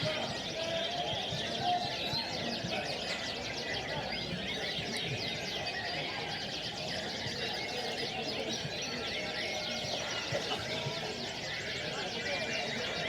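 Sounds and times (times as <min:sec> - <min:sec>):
murmur of crowd voices: 0:00.0 - 0:13.0.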